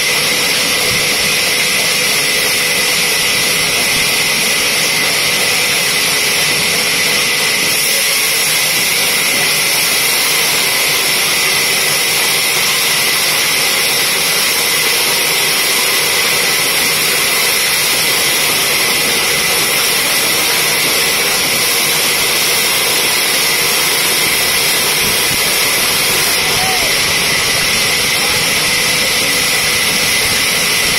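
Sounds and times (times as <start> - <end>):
band sawmill sawing log: 0.0 - 30.9.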